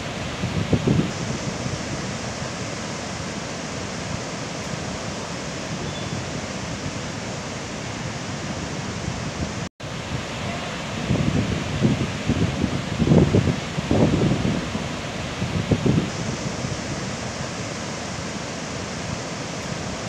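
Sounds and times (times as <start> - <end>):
waterfall rushing: 0.0 - 20.0
wind gusts on microphone: 0.0 - 20.0.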